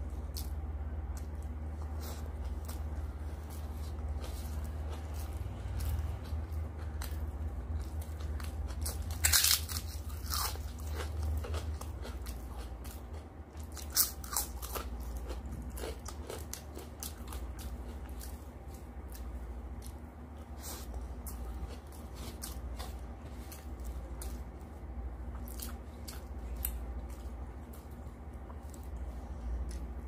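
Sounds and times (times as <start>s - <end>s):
crunching crisp papad: 0.0s - 30.0s.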